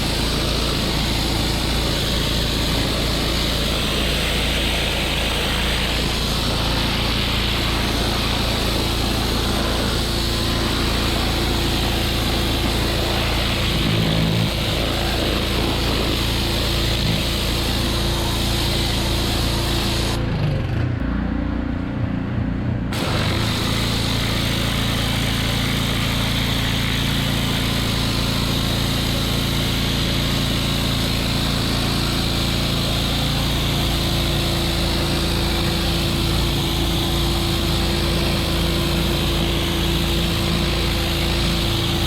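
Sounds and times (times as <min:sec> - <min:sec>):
high-pressure water spray hiss: 0:00.0 - 0:20.2, 0:23.0 - 0:42.0
pressure washer engine running: 0:00.0 - 0:21.3, 0:22.9 - 0:42.0.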